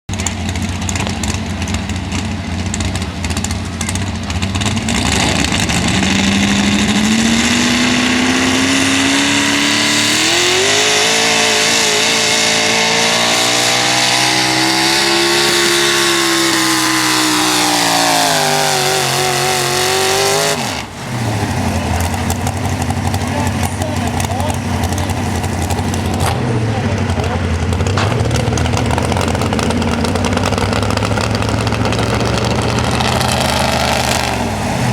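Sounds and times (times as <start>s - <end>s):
truck engine at full throttle: 0.1s - 34.9s.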